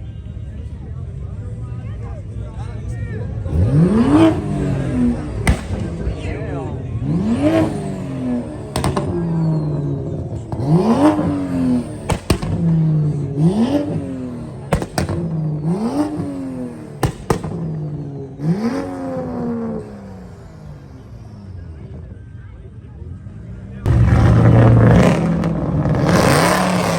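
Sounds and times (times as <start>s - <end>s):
car engine revving: 3.2s - 26.9s.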